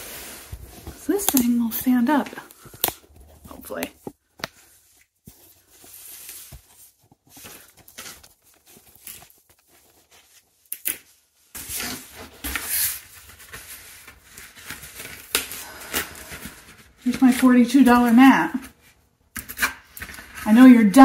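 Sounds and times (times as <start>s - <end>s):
cardboard package rustling: 0.0s - 20.4s.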